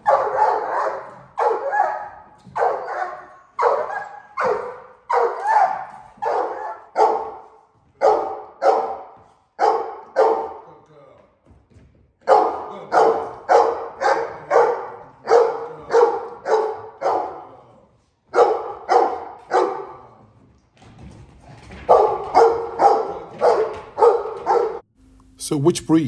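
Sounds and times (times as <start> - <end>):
dog barking: 0.0 - 10.7, 12.2 - 17.7, 18.3 - 20.2, 21.7 - 24.8.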